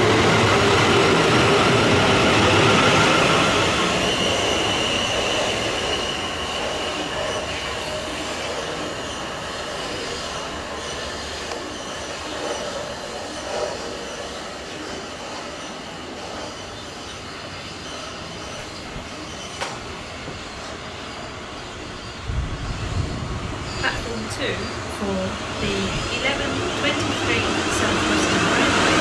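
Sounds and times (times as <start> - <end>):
passenger train passing: 0.0 - 29.0.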